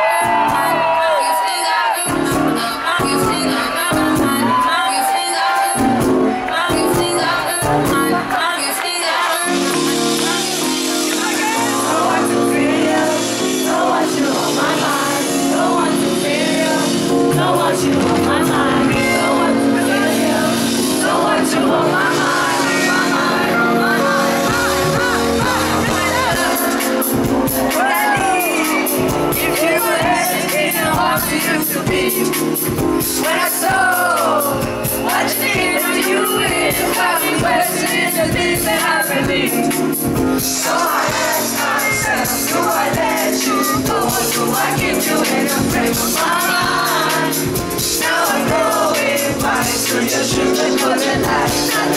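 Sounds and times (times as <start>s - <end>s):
woman singing into microphone: 0.0s - 32.4s, 40.5s - 51.9s
band playing held chords: 9.4s - 51.9s.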